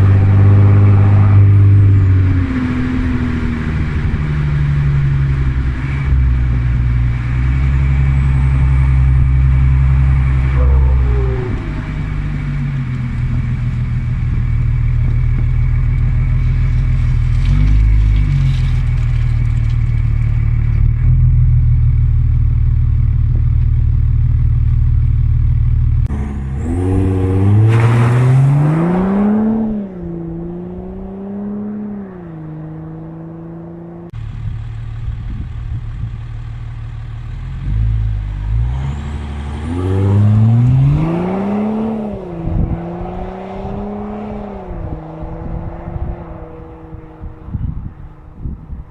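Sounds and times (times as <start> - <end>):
diesel engine revving: 0.0 - 23.3, 25.1 - 36.3, 37.0 - 47.8.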